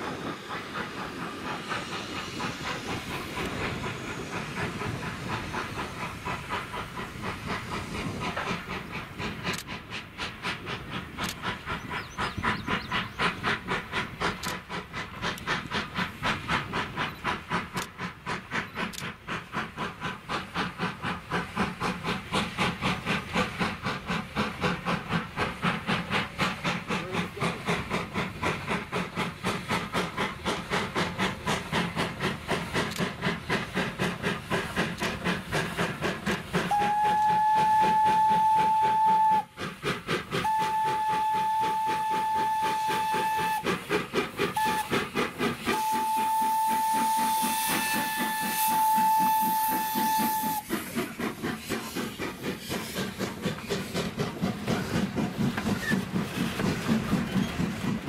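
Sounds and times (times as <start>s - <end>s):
steam hissing: 0.0s - 58.0s
steam locomotive chuffing: 0.0s - 58.0s.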